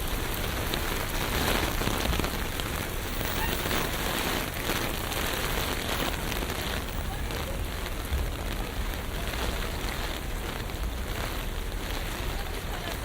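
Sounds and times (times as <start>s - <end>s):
low traffic rumble: 0.0s - 13.0s
rain on a street: 0.0s - 13.0s.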